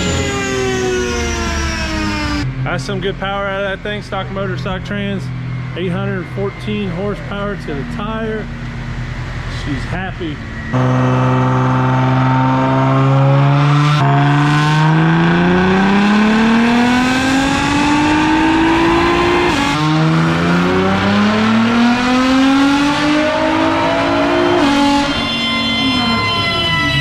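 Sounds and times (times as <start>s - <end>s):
car engine revving on dyno: 0.0s - 27.0s.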